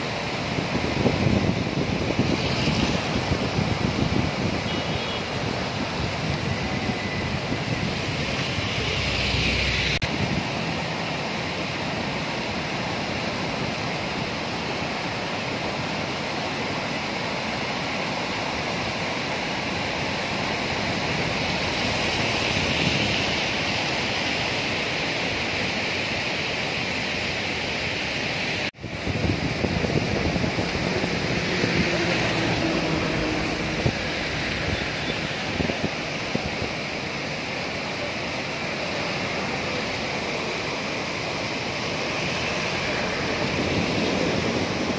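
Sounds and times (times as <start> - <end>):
river water rushing: 0.0 - 44.9.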